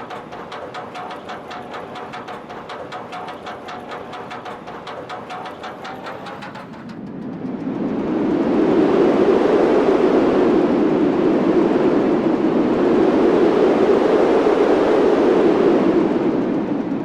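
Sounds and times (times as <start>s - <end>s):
rushing air on a ride: 0.0s - 17.0s.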